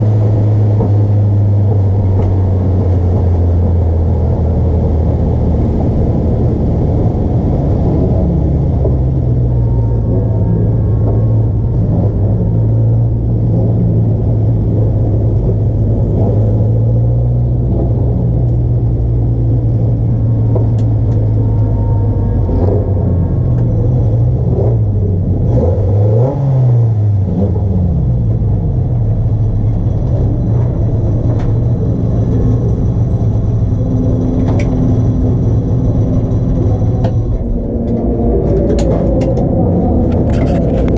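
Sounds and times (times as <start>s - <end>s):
racing car engines running: 0.0s - 40.9s.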